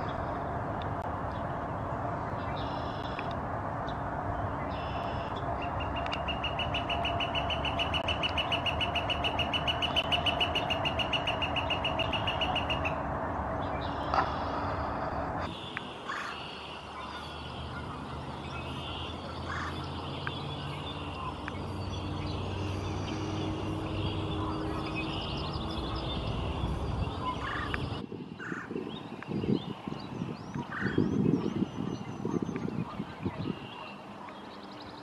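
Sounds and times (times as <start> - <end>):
birds chirping: 2.2 - 35.0.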